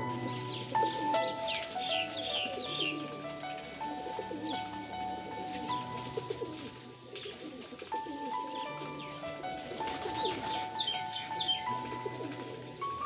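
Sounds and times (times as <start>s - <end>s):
music with held notes: 0.0s - 13.0s
pigeons cooing: 0.2s - 13.0s.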